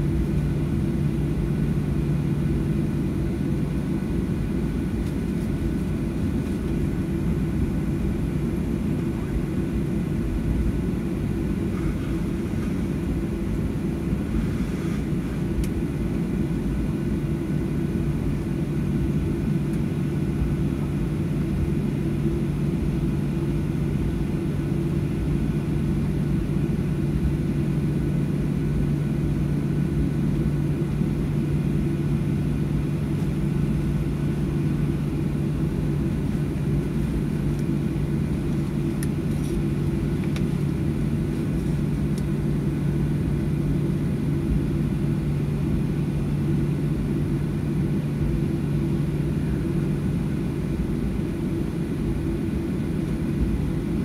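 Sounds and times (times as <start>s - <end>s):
jet airliner engines rumbling: 0.0s - 54.0s.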